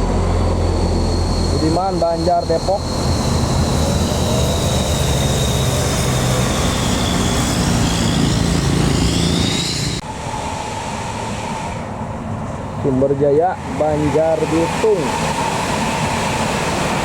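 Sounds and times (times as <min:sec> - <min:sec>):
bus diesel engine: 0:00.0 - 0:17.0
thin high whine: 0:00.0 - 0:17.0.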